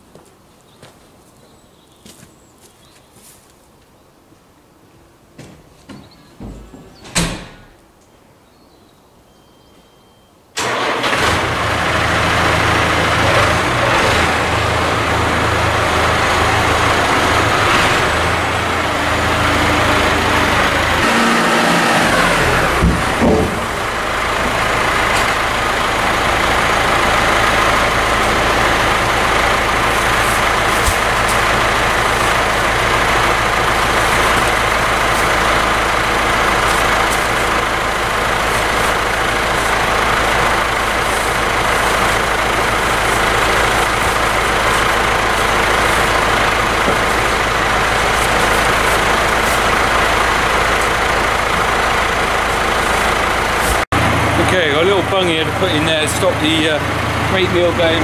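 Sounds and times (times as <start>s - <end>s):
diesel engine idling: 10.6s - 58.0s.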